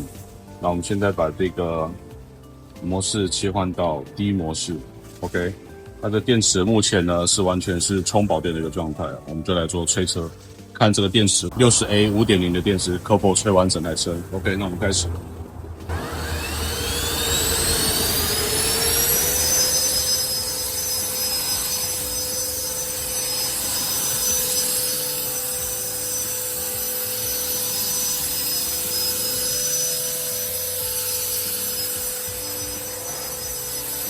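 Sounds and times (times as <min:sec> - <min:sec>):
blower whining: 0:00.0 - 0:34.0.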